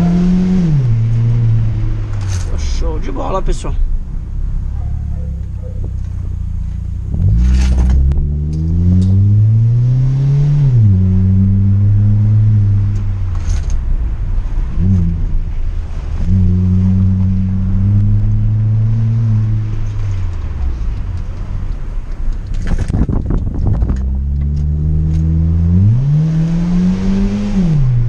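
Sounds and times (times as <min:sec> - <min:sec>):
car engine revving through exhaust: 0:00.0 - 0:02.5, 0:04.4 - 0:21.8, 0:22.4 - 0:28.0.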